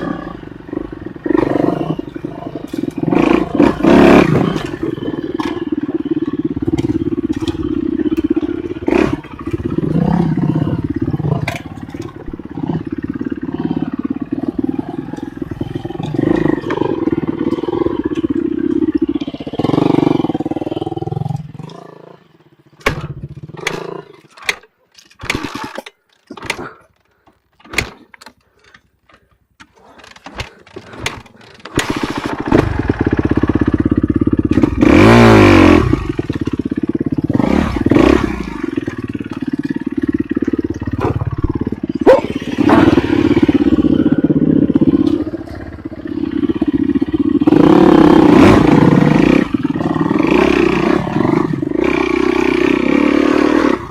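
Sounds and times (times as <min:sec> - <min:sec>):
motorcycle engine: 0:00.0 - 0:53.9.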